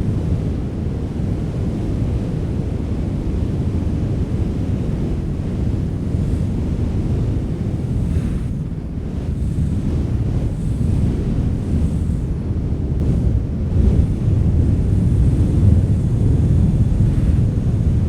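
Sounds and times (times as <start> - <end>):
wind rumbling: 3.4 - 18.0.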